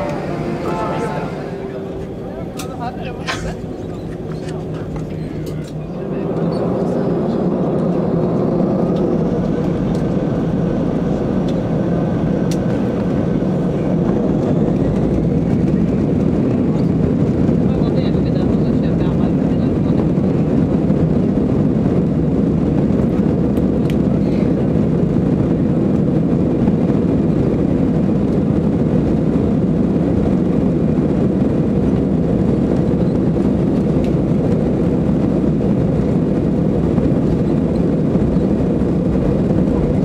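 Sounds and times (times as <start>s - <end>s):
airplane engines and wheels rumbling: 0.0s - 40.0s.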